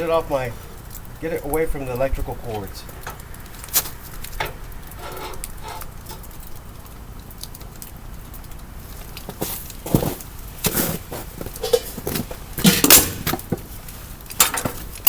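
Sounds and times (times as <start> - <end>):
light clicks and crackles: 0.0 - 15.0
low steady background noise: 0.0 - 15.0.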